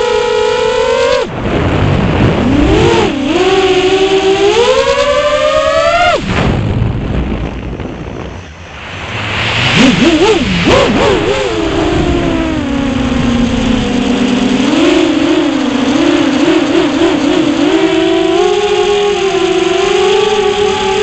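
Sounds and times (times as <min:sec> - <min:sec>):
quadcopter motors whining: 0:00.0 - 0:01.4, 0:02.2 - 0:06.3, 0:07.7 - 0:21.0
wind noise: 0:00.1 - 0:21.0.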